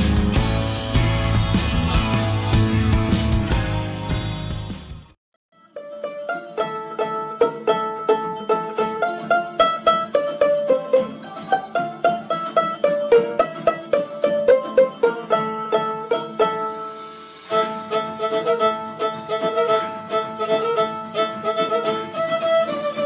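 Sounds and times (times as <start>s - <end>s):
bright plucked banjo-like music: 0.0s - 23.0s.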